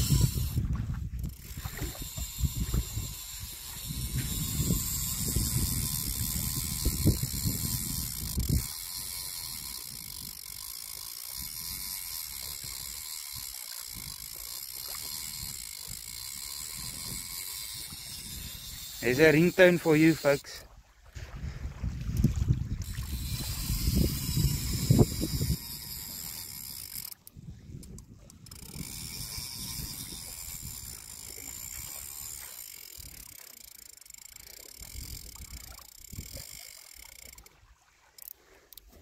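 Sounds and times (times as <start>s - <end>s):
fishing reel gears whirring: 0.0s - 20.6s, 22.1s - 39.0s.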